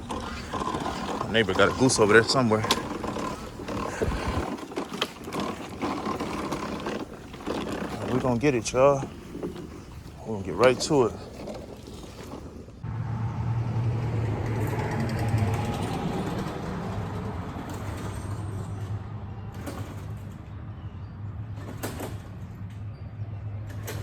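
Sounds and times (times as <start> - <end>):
lawn mower engine running: 0.0 - 20.9.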